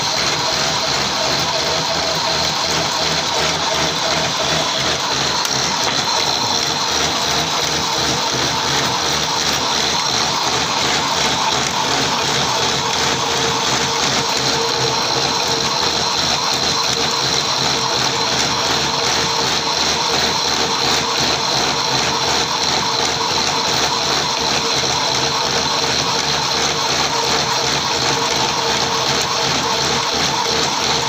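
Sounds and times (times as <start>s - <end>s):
metal lathe cutting with high whine: 0.0s - 31.0s.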